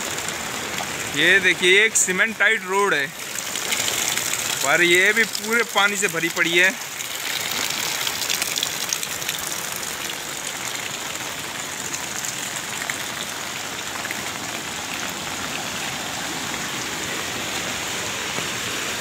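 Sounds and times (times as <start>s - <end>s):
heavy rain on standing water: 0.0s - 19.0s.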